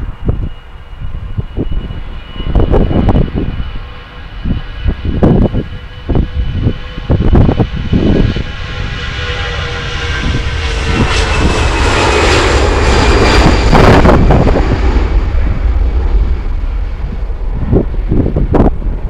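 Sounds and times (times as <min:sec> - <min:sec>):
jet engines whining and rumbling: 0:00.0 - 0:19.0
wind buffeting microphone: 0:00.0 - 0:19.0.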